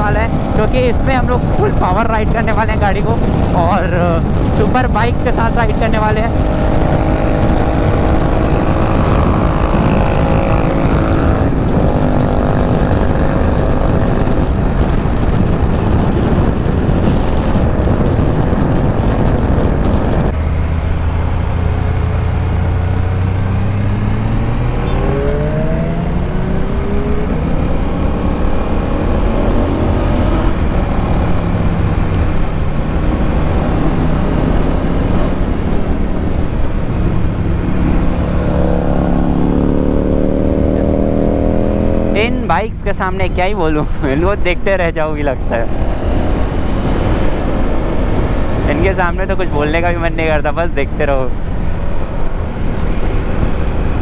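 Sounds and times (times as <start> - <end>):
motorcycle engine accelerating: 0.0 - 54.0
wind rushing over microphone: 0.0 - 54.0.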